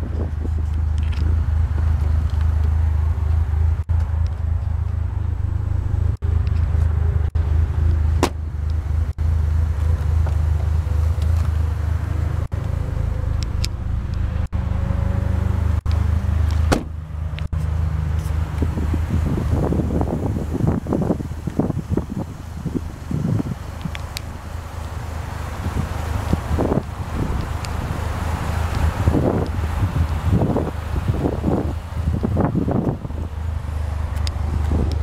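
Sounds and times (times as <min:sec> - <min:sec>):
car engine idling: 0:00.0 - 0:14.7, 0:15.6 - 0:35.0.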